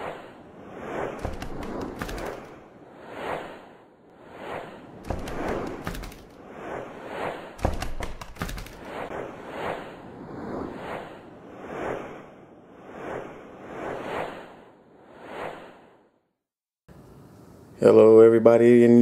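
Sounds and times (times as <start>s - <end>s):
whooshes: 0.0s - 16.4s.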